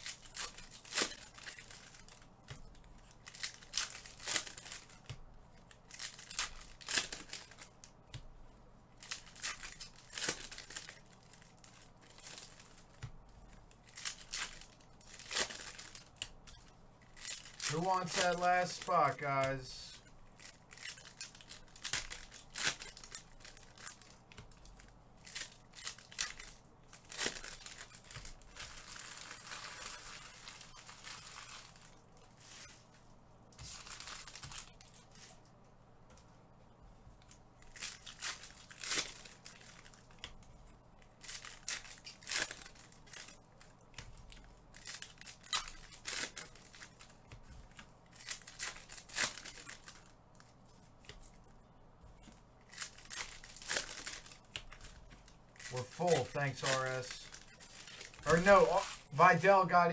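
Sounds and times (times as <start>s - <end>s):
plastic wrappers crinkling and tearing: 0.0s - 8.3s, 8.9s - 35.4s, 37.2s - 59.9s.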